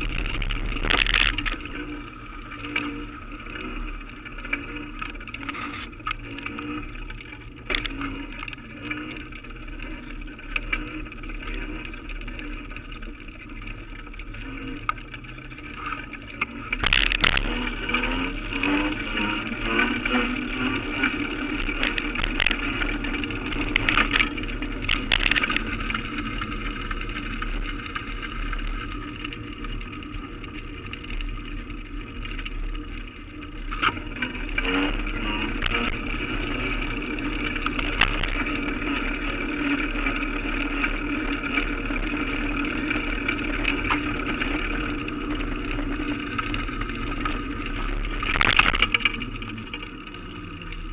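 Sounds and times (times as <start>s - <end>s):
street and road noise: 0.0s - 50.9s.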